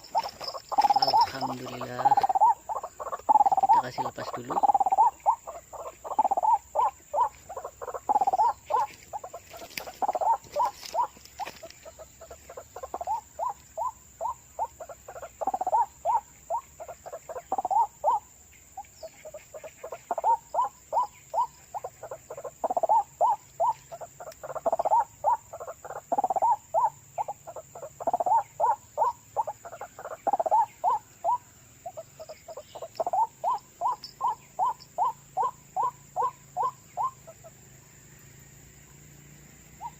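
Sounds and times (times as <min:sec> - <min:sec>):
waterhen croaking calls: 0:00.0 - 0:37.6.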